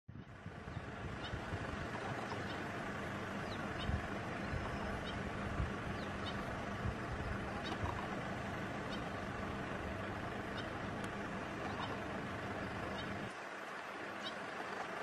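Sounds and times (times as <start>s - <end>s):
low engine-like hum: 0.1s - 15.0s
constant hiss: 0.2s - 15.0s.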